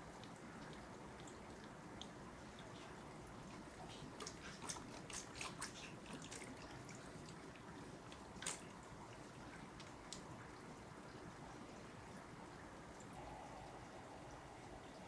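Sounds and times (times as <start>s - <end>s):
water drips and splashes: 0.0s - 13.2s.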